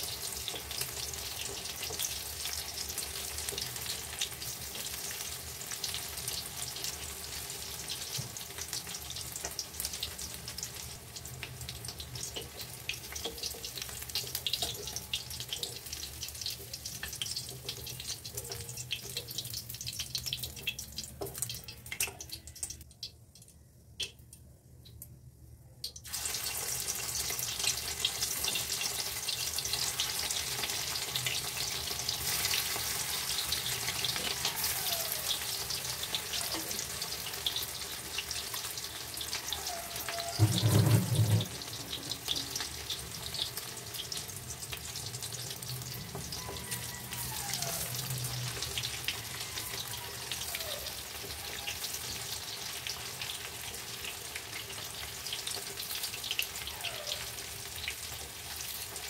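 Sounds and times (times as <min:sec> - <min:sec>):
cakes sizzling in hot oil: 0:00.0 - 0:23.2, 0:25.9 - 0:59.0.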